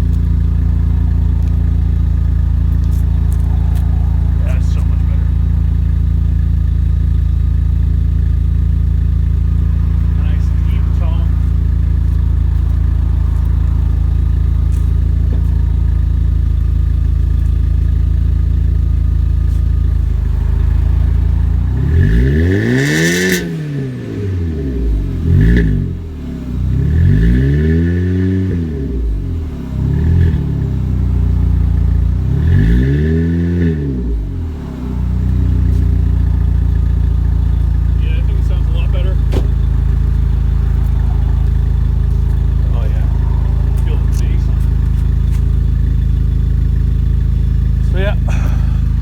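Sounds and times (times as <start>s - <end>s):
car engine idling and revving: 0.0s - 49.0s.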